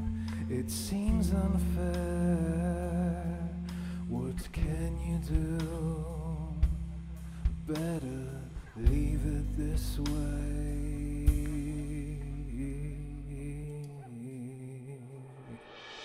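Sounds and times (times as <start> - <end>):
low bass drone: 0.0 - 13.9.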